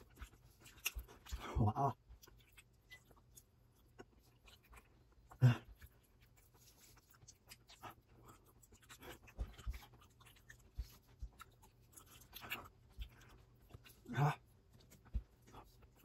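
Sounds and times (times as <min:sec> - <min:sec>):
chewing and mouth sounds: 0:00.0 - 0:16.0.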